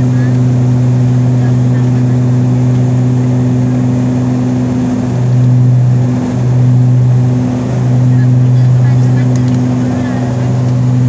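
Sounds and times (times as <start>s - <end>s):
aircraft engine drone in cabin: 0.0s - 11.0s.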